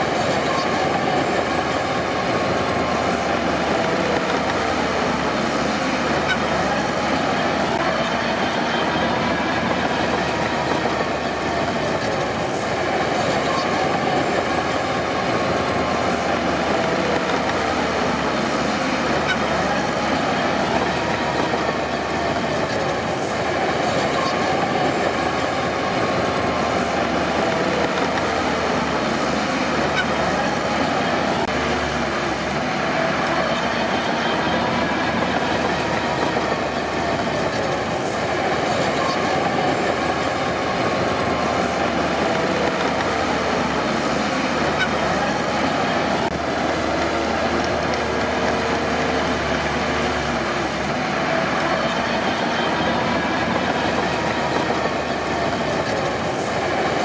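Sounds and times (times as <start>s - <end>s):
diesel engine running: 0.0s - 57.0s
steel tracks clanking: 0.0s - 57.0s.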